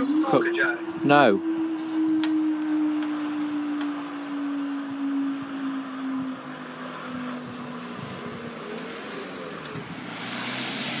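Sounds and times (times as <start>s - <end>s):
vehicle engine tone: 0.0s - 11.0s.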